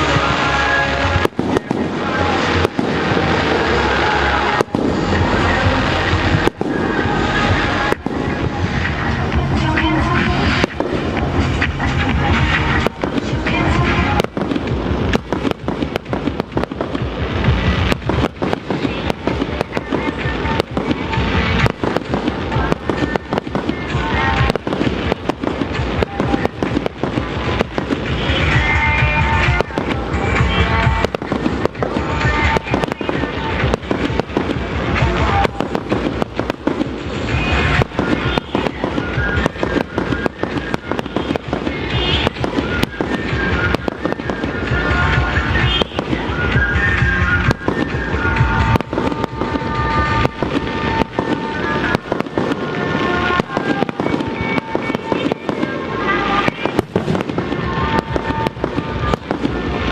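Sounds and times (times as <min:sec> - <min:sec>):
fireworks bangs and crackles: 0:00.0 - 0:59.9
music playing: 0:00.0 - 0:59.9.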